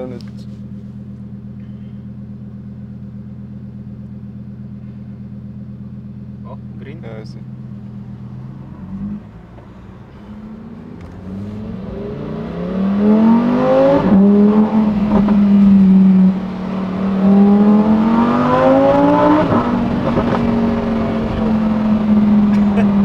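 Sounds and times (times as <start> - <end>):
sports car engine accelerating: 0.0 - 23.0.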